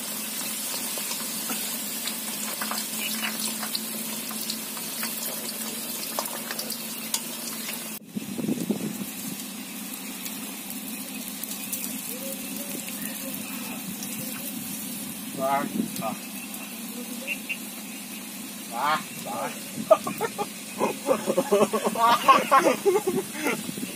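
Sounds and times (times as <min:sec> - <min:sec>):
rain falling: 0:00.0 - 0:23.9.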